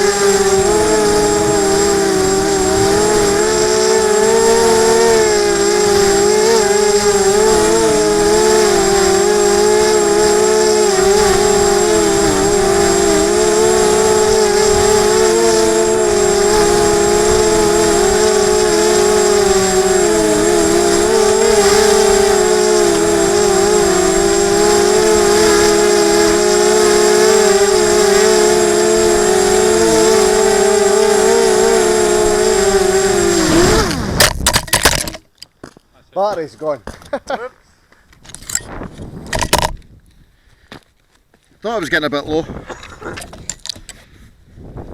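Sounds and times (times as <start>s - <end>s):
quadcopter motors whining: 0.0s - 35.4s, 38.2s - 39.9s, 42.3s - 44.3s.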